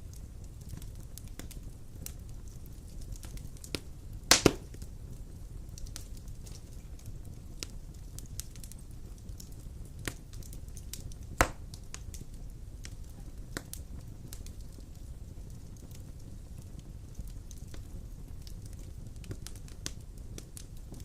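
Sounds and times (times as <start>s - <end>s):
fire crackles and pops: 0.0s - 21.0s
low rumble of flame: 0.0s - 21.0s.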